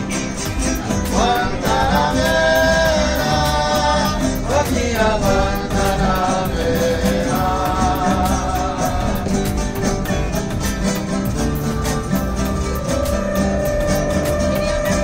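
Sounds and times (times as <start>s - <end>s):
person singing: 0.0s - 11.0s, 12.1s - 15.0s
acoustic guitars strumming: 0.0s - 15.0s.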